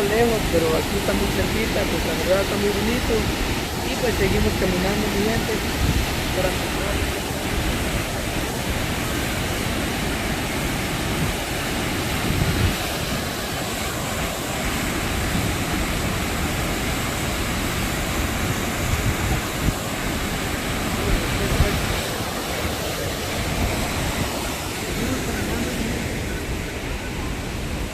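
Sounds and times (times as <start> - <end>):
waterfall and river rushing: 0.0 - 27.9.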